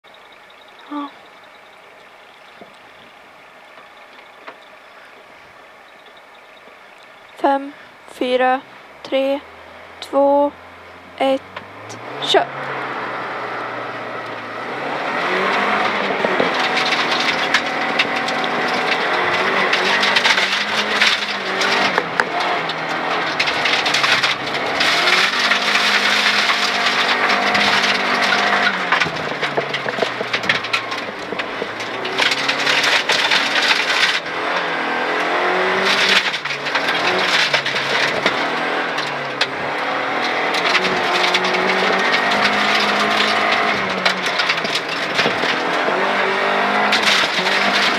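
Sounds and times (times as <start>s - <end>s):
gravel crackling under car: 0.0s - 47.9s
car engine revving: 5.9s - 47.9s.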